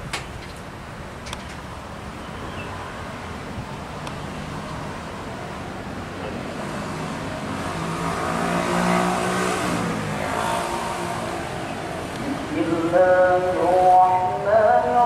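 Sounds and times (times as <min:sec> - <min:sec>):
background traffic: 0:00.0 - 0:15.0
vehicle driving past: 0:02.1 - 0:14.6.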